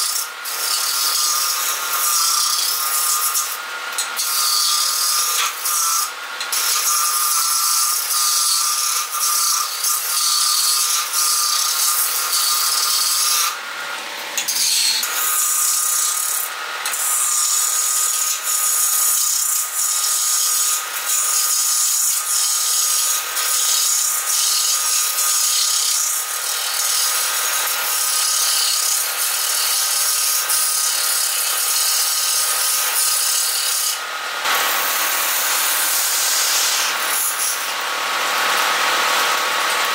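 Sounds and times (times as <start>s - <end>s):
wood lathe cutting rasp: 0.0s - 39.9s.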